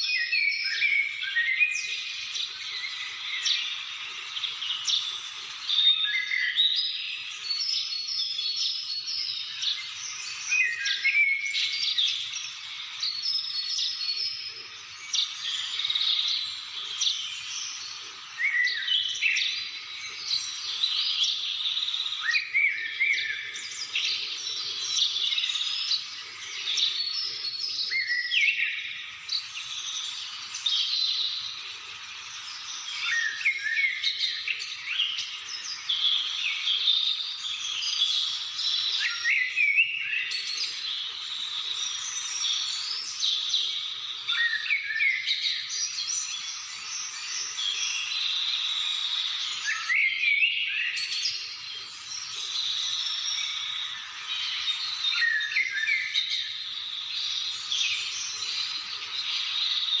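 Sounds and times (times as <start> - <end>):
birds chirping and trilling: 0.0 - 60.0.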